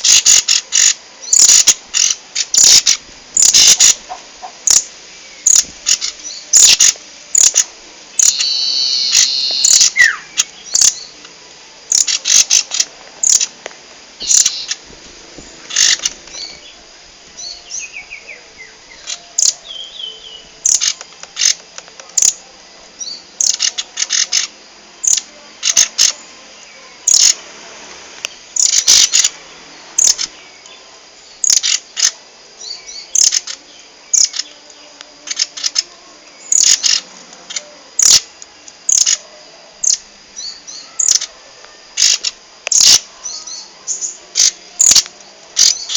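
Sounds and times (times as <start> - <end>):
bird warbling: 0.0 - 11.2, 11.9 - 13.6, 14.2 - 14.8, 15.5 - 16.8, 17.4 - 22.4, 23.1 - 26.2, 27.0 - 27.4, 28.6 - 30.4, 31.4 - 32.2, 33.0 - 34.6, 35.2 - 38.3, 38.9 - 45.9
songbird chirping: 0.0 - 45.9.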